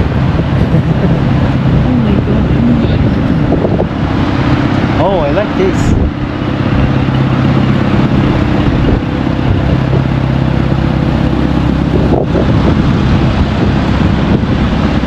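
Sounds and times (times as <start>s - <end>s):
large engine idling: 0.0s - 15.0s
street noise: 0.0s - 15.0s.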